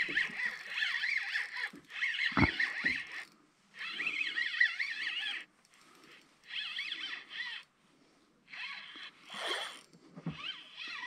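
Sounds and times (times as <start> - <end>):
spinning reel whirring: 0.0 - 7.7, 8.5 - 11.0.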